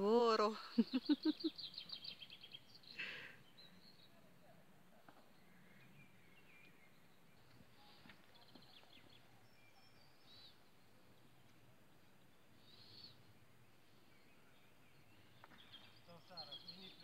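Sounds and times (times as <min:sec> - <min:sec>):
faint bird chirps and trills: 0:00.4 - 0:17.0.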